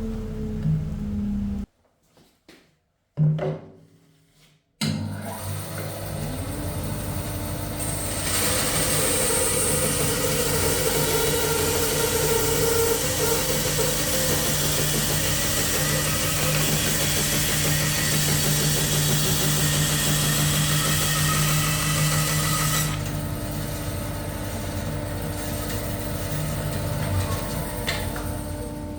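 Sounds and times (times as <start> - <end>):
bandsaw motor hum: 5.0 - 28.9
saw cutting through wood: 5.4 - 28.7.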